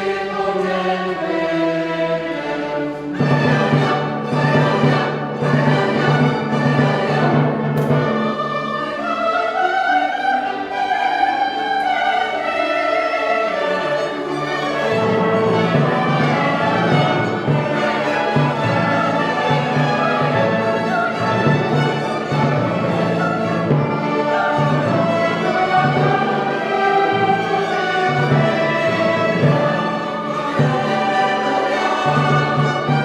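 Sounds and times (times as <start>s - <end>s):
choir and orchestra performing: 0.0s - 33.0s.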